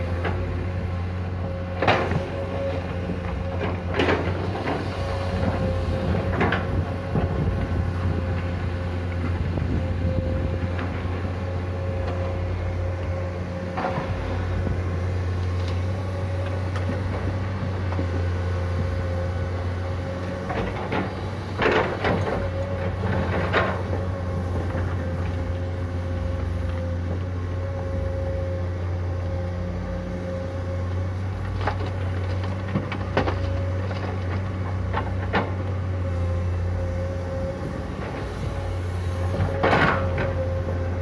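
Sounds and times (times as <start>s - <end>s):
excavator diesel engine: 0.0s - 41.0s.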